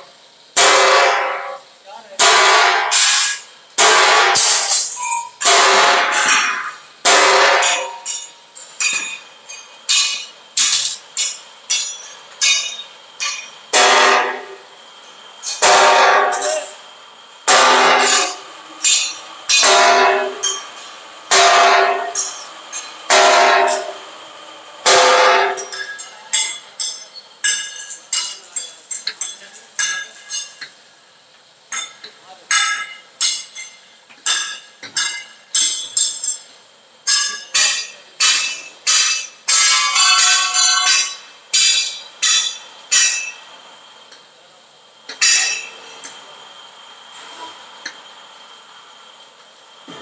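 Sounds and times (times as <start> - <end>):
hammer striking steel: 0.6 - 1.6, 2.2 - 16.8, 17.5 - 30.7, 31.7 - 43.5, 45.1 - 46.2.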